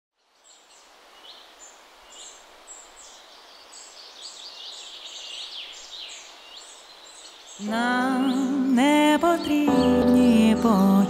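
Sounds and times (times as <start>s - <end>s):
faint outdoor hiss: 0.2s - 11.0s
small birds chirping: 0.2s - 11.0s.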